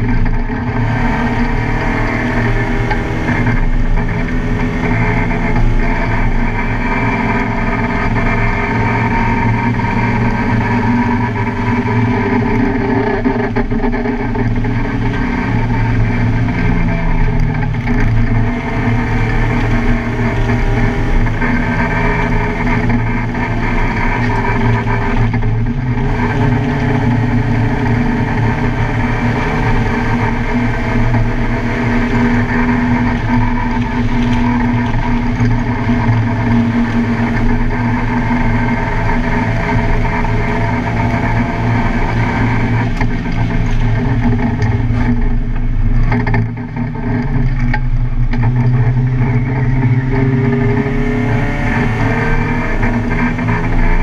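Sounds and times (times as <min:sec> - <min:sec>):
car engine running hard: 0:00.0 - 0:54.0.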